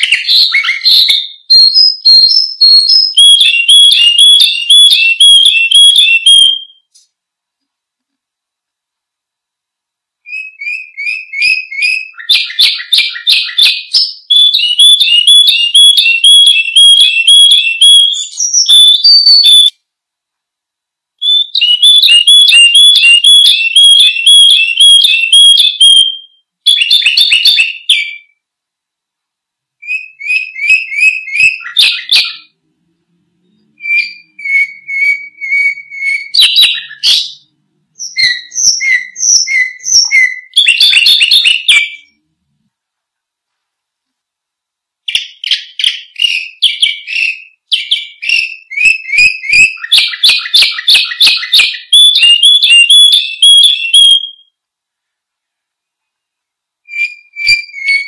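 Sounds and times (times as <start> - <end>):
canary singing trills: 0.0 - 6.9, 10.2 - 19.8, 21.2 - 28.4, 29.8 - 42.2, 45.0 - 54.6, 56.8 - 58.0.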